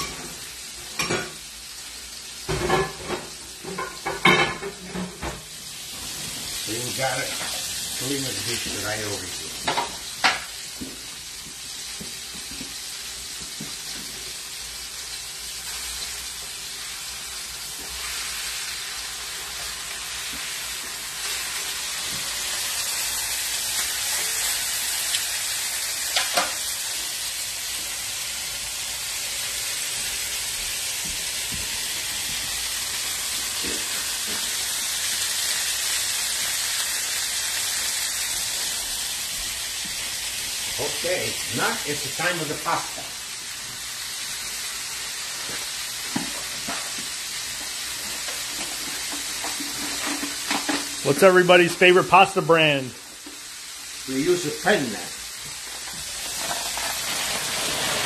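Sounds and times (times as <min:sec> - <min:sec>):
steaks sizzling in a pan: 0:00.0 - 0:58.0.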